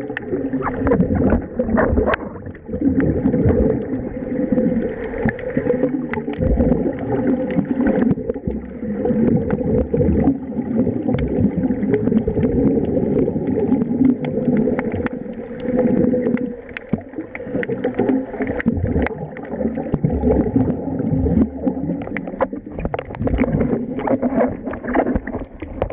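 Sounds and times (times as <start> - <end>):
air bubbling underwater: 0.0 - 25.9.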